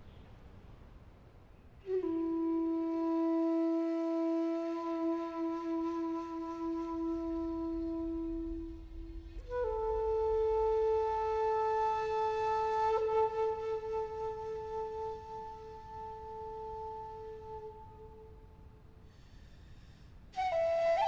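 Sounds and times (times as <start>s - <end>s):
solo wind instrument holding notes: 1.8s - 19.0s, 20.3s - 21.0s.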